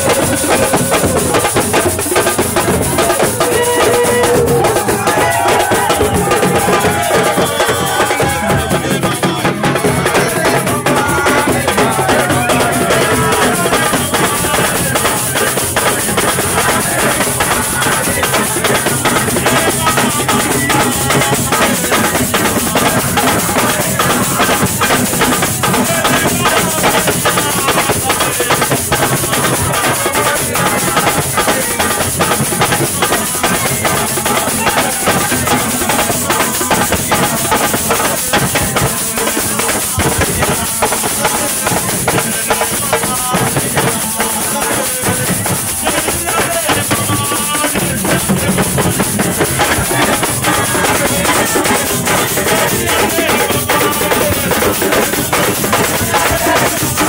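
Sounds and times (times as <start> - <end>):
dense drumming and percussion: 0.0 - 57.0
person singing: 0.0 - 57.0.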